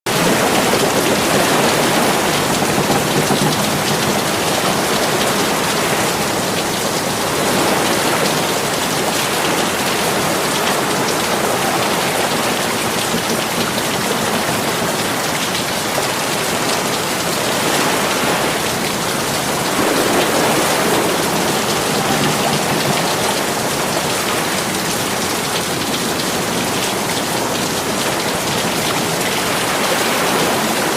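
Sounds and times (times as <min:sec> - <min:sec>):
heavy rain hissing: 0:00.1 - 0:30.9.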